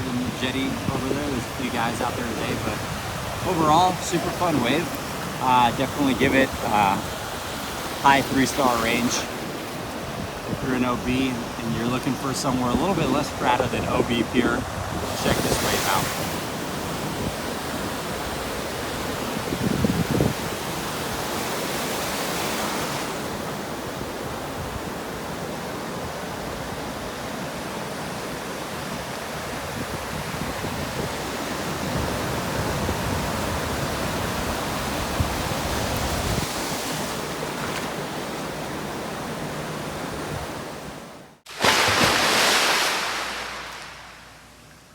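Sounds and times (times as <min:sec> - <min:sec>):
ocean surf breaking: 0:00.0 - 0:44.8.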